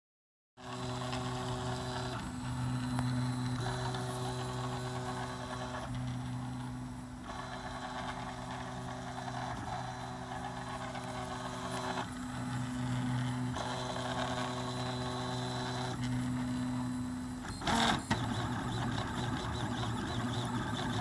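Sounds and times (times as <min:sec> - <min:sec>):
three-d printer stepper motor whine: 0:00.6 - 0:21.0.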